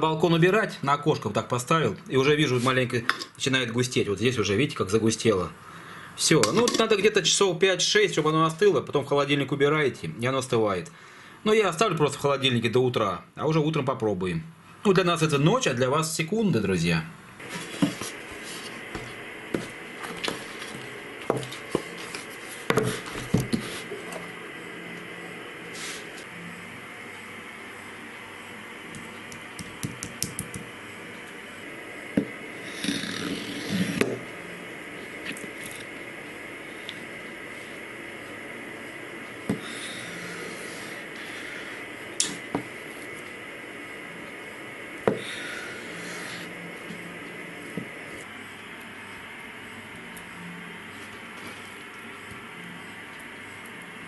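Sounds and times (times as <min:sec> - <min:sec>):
faint high hum: 0:00.0 - 0:54.0.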